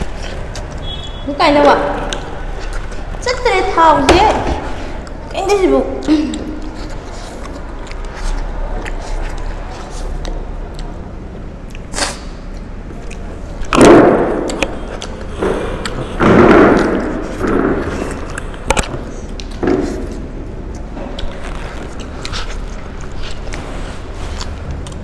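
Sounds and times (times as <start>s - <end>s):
chewing and slurping: 0.0s - 1.2s, 2.0s - 3.2s, 4.7s - 13.8s, 14.4s - 25.0s.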